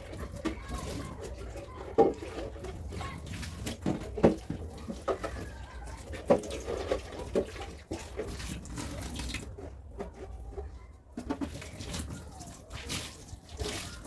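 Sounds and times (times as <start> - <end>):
water splashing: 0.0 - 9.7, 11.5 - 14.0.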